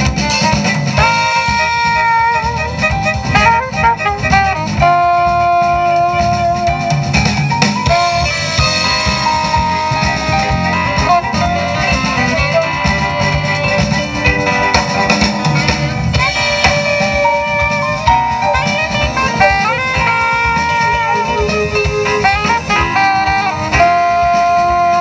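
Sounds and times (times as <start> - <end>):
bass guitar: 0.0 - 25.0
drum kit: 0.0 - 25.0
saxophone: 0.0 - 25.0.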